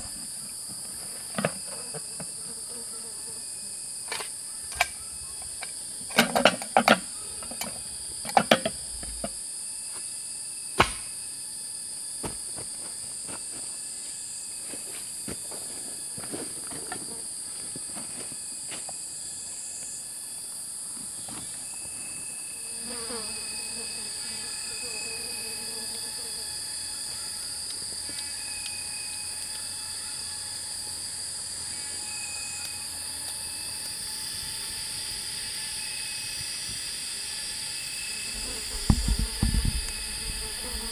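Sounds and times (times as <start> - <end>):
forest insects droning: 0.0 - 40.9.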